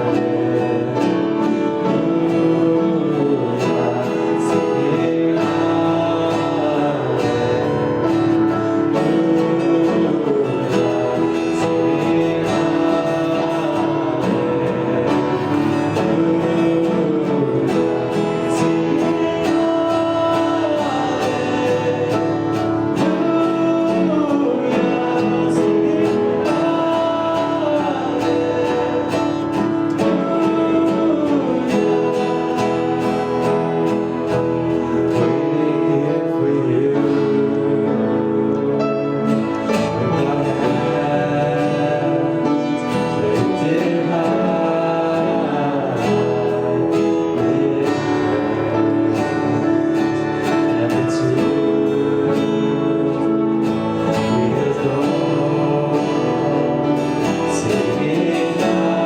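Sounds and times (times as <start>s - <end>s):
acoustic guitar strumming: 0.0s - 59.0s
voices singing: 0.0s - 59.0s.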